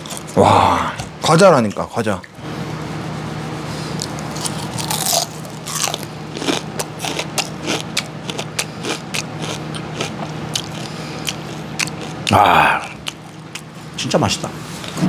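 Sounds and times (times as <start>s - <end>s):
crunching and chewing crispy food: 0.0s - 1.8s, 3.9s - 14.2s.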